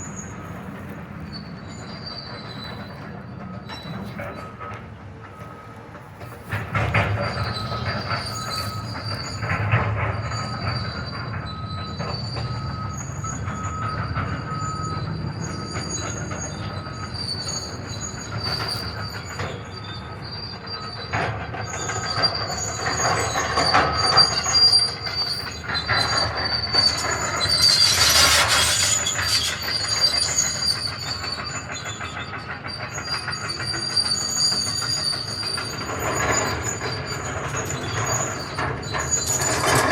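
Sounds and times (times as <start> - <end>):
metal squealing: 0.0 - 39.9.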